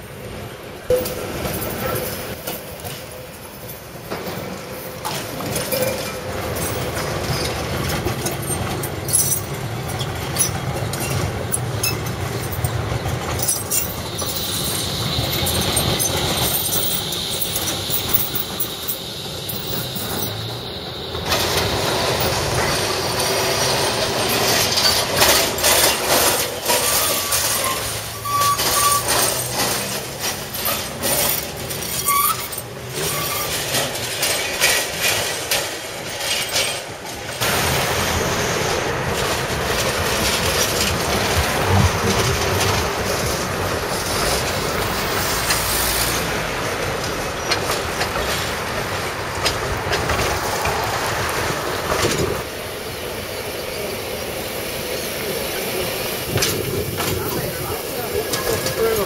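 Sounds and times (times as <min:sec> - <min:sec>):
tram wheels clacking on rail joints: 0:00.0 - 0:59.0
tram wheels squealing: 0:00.0 - 0:59.0.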